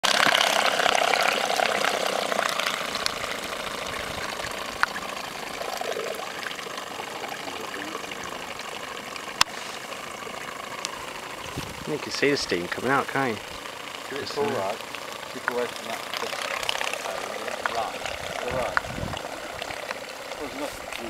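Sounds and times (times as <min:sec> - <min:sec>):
model paddle steamer churning water: 0:00.0 - 0:21.0.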